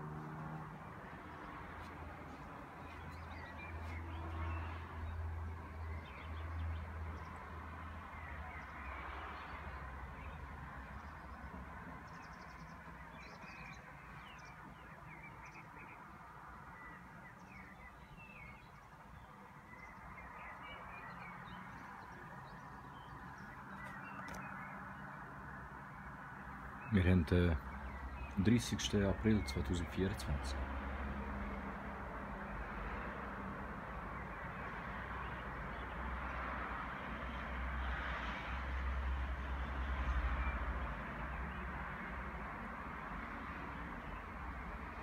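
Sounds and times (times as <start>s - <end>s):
birds chirping: 0.0s - 38.3s
steady outdoor hiss: 0.0s - 45.0s.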